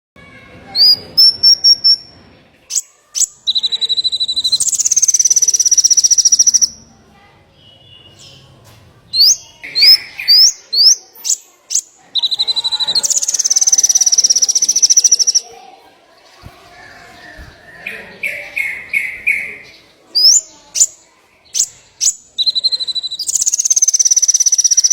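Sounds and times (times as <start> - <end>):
songbird chirps and trill: 0.2 - 24.9.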